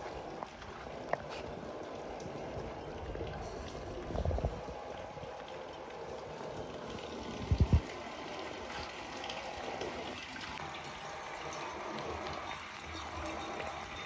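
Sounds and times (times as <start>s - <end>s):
rainwater trickling into container: 0.0s - 14.0s.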